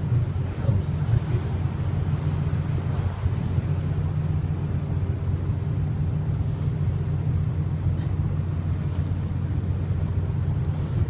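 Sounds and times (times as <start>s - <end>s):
boat engine drone: 0.0s - 11.0s
wind on microphone: 0.0s - 11.0s.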